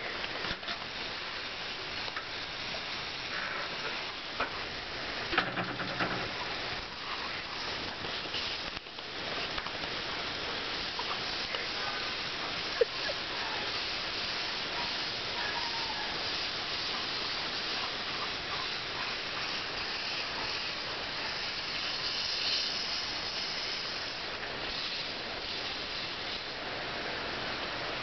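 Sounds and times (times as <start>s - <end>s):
sprinkler water spray hissing: 0.0s - 28.0s.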